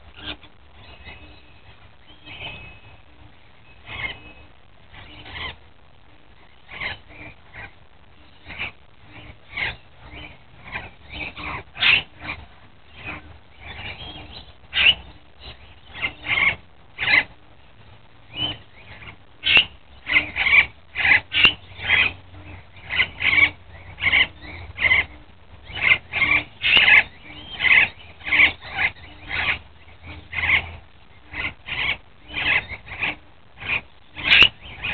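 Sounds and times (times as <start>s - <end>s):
parrots chirping and squawking: 0.1s - 5.6s, 6.4s - 17.4s, 18.3s - 34.9s.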